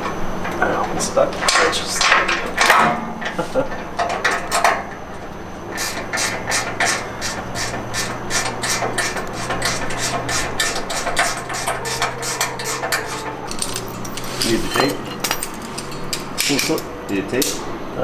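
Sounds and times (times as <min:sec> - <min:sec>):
hammer striking steel: 0:00.0 - 0:17.6.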